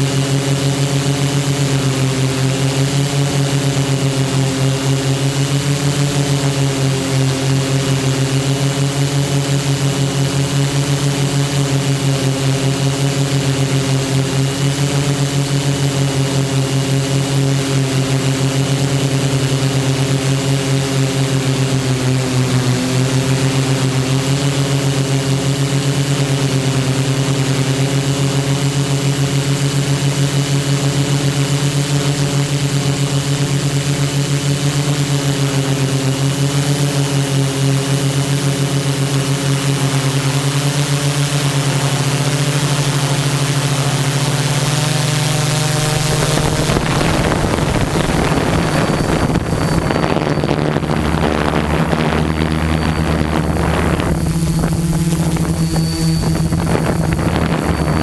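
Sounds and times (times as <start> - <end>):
drone motors and propellers humming: 0.0 - 58.0.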